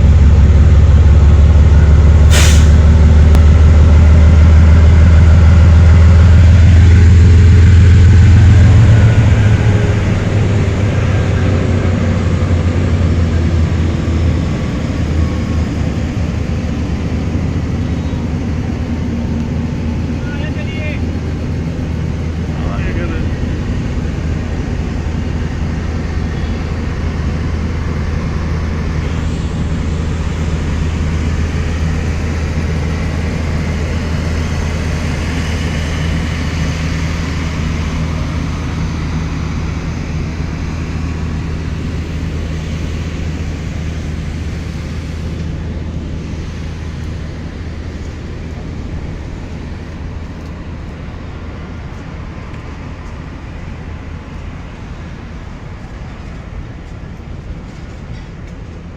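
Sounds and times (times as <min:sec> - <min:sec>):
diesel locomotive engine drone: 0:00.0 - 0:58.9.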